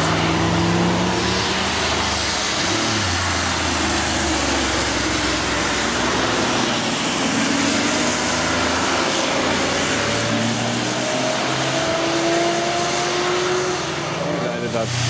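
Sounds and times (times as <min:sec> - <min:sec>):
car engines humming: 0:00.0 - 0:15.0
tyres hissing through water: 0:00.0 - 0:15.0.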